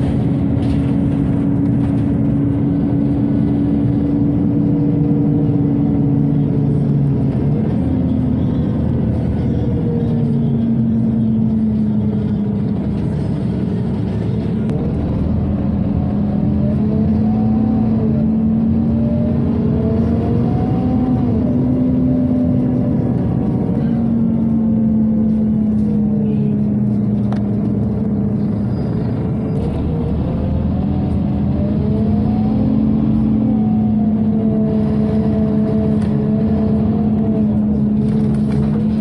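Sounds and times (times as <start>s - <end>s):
bus engine hum from inside: 0.0s - 39.0s.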